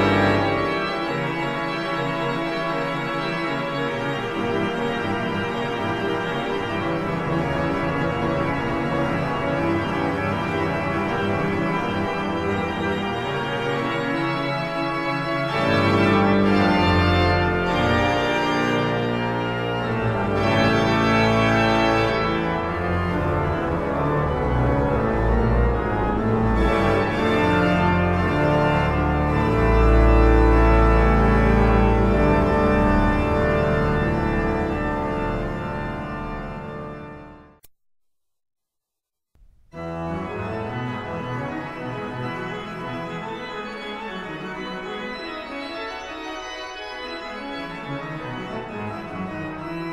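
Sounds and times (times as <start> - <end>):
pipe organ playing chords: 0.0 - 37.5, 39.8 - 49.9.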